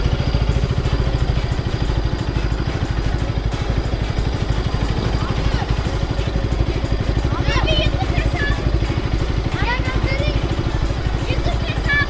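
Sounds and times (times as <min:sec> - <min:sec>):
motorcycle engine idling low: 0:00.0 - 0:12.0.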